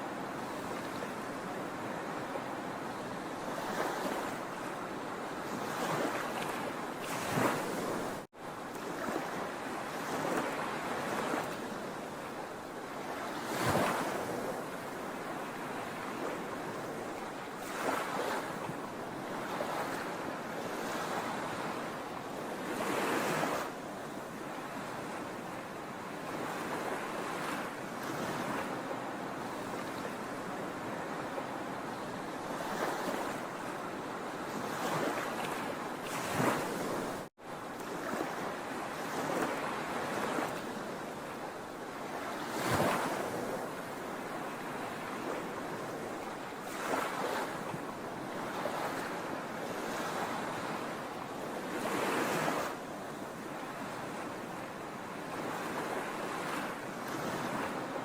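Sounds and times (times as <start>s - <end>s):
sea waves breaking: 3.4s - 23.8s, 24.4s - 58.0s.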